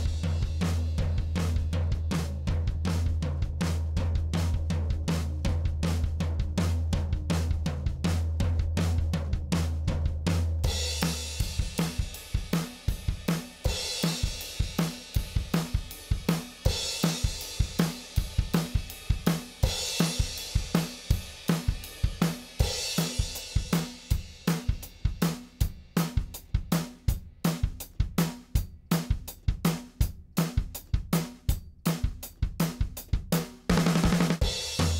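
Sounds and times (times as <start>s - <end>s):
drum kit groove: 0.0s - 34.9s.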